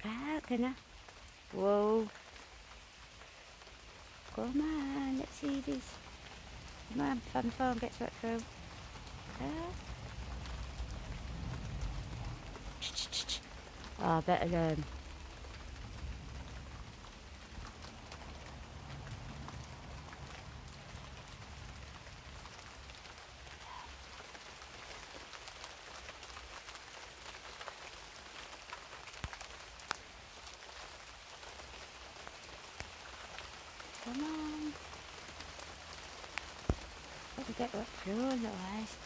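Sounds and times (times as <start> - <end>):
rain pattering: 0.0 - 39.0.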